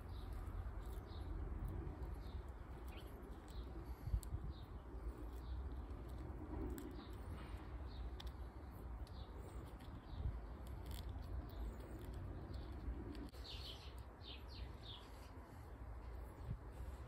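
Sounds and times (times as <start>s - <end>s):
small bird chirping: 0.0s - 15.7s
low outdoor rumble: 0.0s - 17.0s.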